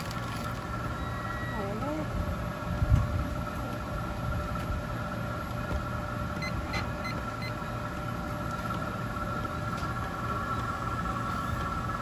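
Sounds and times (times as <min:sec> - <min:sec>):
treadmill motor hum and whine: 0:00.0 - 0:12.0.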